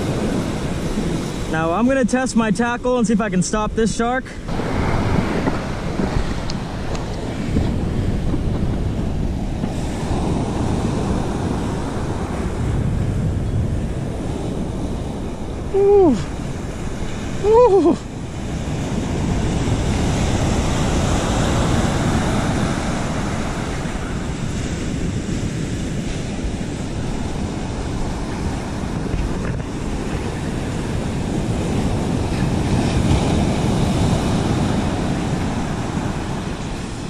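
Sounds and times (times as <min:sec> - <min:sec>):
wind buffeting microphone: 0:00.0 - 0:37.0
surf breaking: 0:04.4 - 0:37.0.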